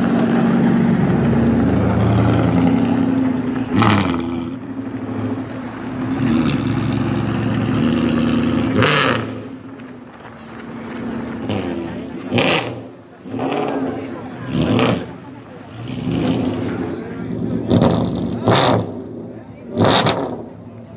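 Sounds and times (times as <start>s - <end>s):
engine revving: 0.0s - 9.7s, 10.7s - 20.7s.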